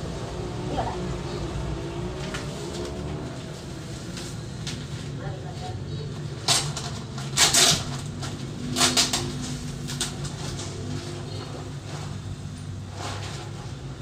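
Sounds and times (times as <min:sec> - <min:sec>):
cement sacks rustling and scraping: 0:00.0 - 0:14.0.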